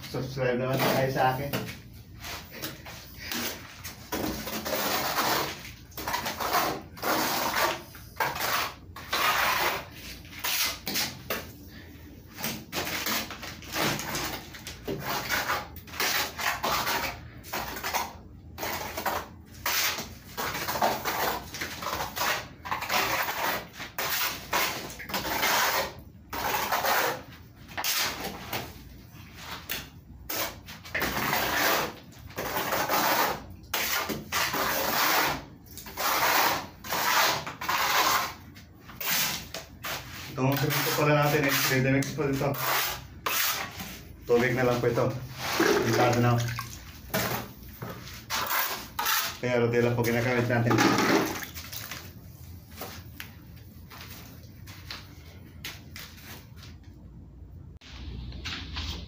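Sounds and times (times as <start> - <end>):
trowel scraping wet cement: 0.4 - 11.5, 12.3 - 28.8, 29.4 - 52.1.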